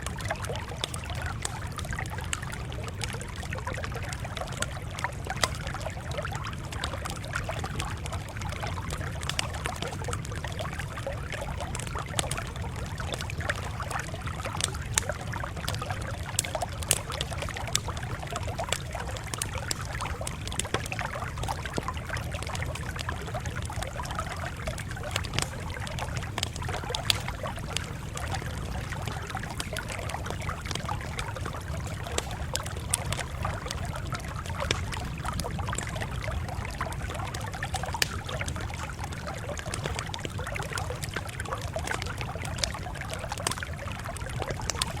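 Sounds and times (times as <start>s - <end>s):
campfire crackling: 0.0s - 45.0s
sharp fire pops: 4.2s - 45.0s.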